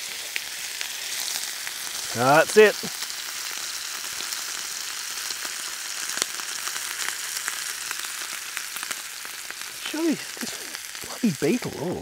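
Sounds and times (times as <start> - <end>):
steak sizzling in frying pan: 0.0 - 12.0.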